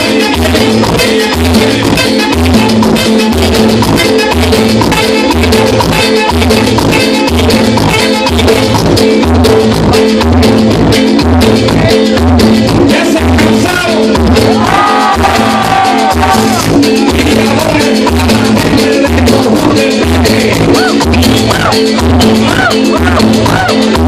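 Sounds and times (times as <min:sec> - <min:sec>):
man singing: 0:00.0 - 0:10.2, 0:11.1 - 0:24.0
live cumbia band: 0:00.0 - 0:24.0.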